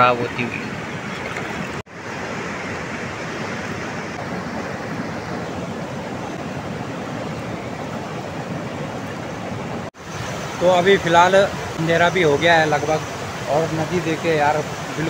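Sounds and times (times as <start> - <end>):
river rushing over stones: 0.3 - 15.0.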